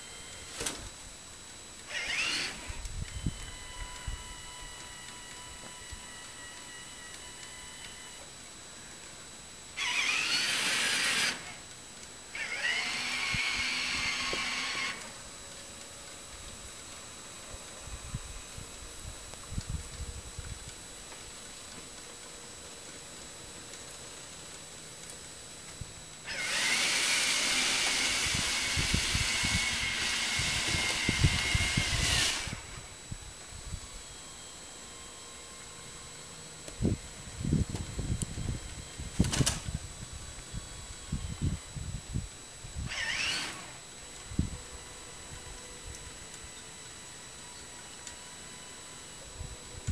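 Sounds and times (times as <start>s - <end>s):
motors whirring: 0.0s - 8.5s, 9.7s - 49.9s.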